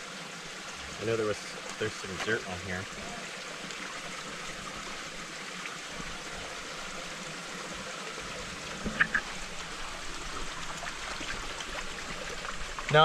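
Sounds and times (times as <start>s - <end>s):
small stream flowing: 0.0s - 13.0s.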